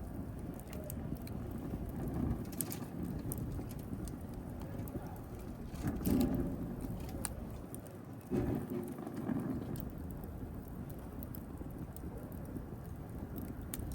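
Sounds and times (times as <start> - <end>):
fire crackles and pops: 0.0 - 13.9
wood fire burning: 0.0 - 13.9.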